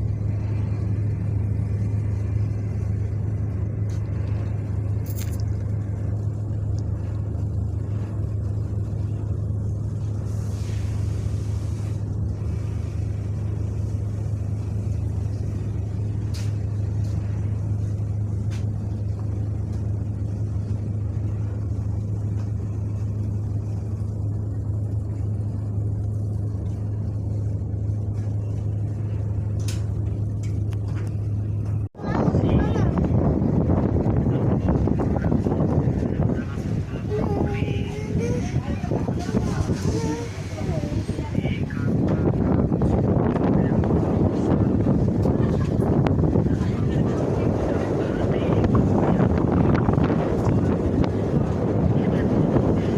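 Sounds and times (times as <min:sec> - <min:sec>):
ship diesel engine droning: 0:00.0 - 0:52.9.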